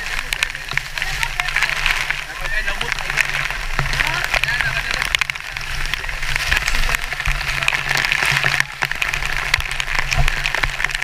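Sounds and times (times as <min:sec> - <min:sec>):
waterfall spray hissing over rocks: 0:00.0 - 0:11.0.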